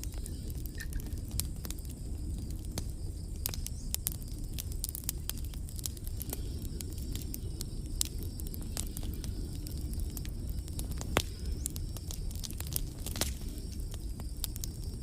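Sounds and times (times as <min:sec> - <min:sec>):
low rumble of rain and wind: 0:00.0 - 0:15.0.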